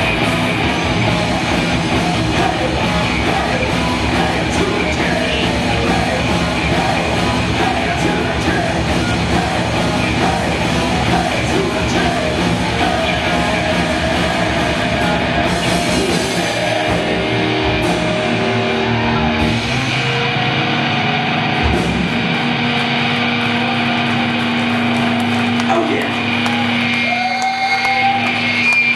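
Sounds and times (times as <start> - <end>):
heavy metal band playing live: 0.0 - 28.9.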